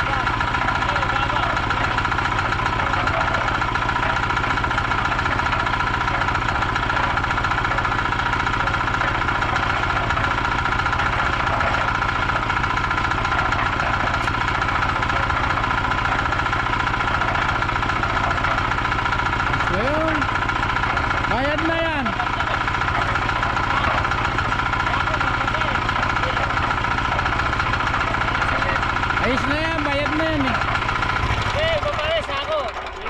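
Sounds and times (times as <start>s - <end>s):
small engine chugging: 0.0s - 33.0s.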